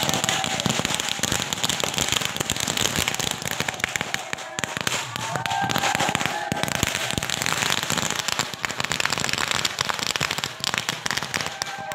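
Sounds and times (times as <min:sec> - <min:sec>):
firecrackers going off: 0:00.0 - 0:11.9.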